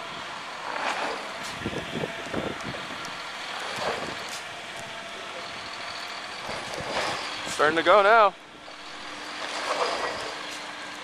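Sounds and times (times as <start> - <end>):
bus engine straining: 0.0 - 11.0.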